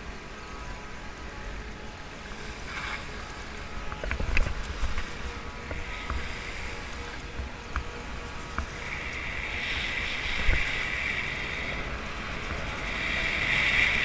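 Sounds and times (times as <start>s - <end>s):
wind buffeting microphone: 1.6s - 14.0s
swishing scrapes: 2.3s - 14.0s.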